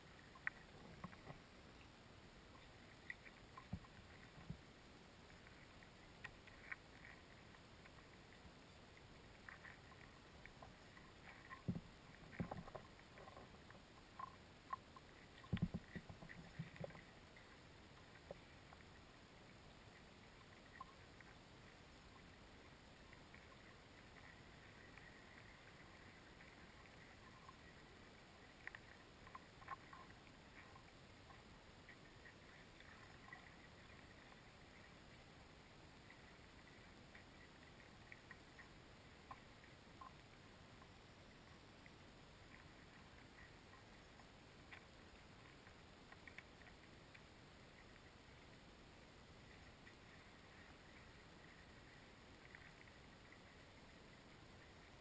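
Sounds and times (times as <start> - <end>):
faint steady hiss: 0.0 - 55.0
small clicks and ticks: 0.0 - 55.0.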